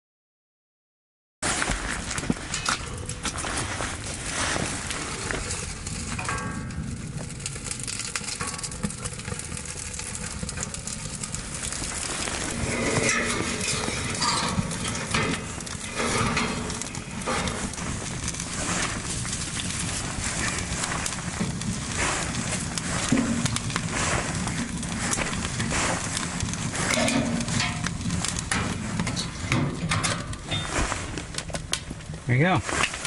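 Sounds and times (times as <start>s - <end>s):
fire crackling in wood stove: 1.4s - 33.0s.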